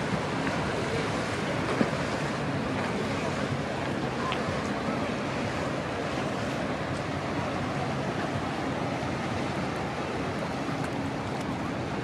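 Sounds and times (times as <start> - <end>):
water lapping: 0.0 - 12.0.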